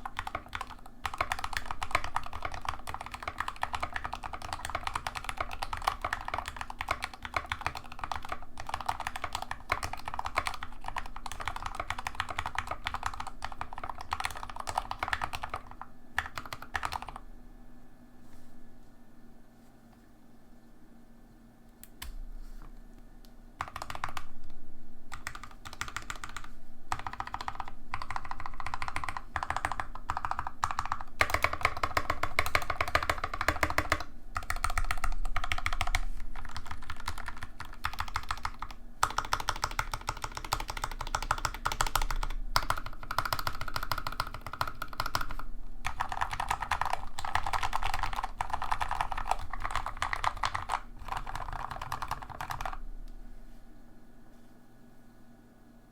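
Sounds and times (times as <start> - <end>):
mechanical keyboard typing: 0.0 - 17.2, 23.6 - 24.3, 25.1 - 52.8.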